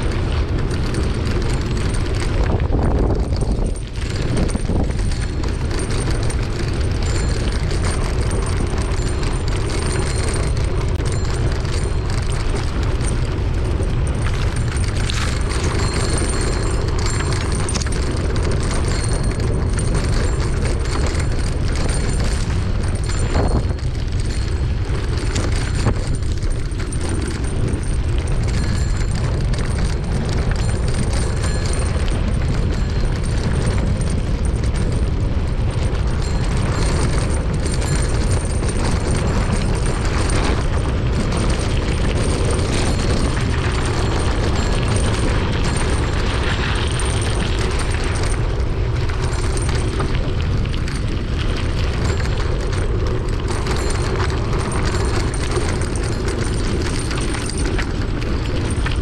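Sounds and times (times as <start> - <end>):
bike knocks and rattles: 0.0 - 59.0
wind buffeting microphone: 0.0 - 59.0.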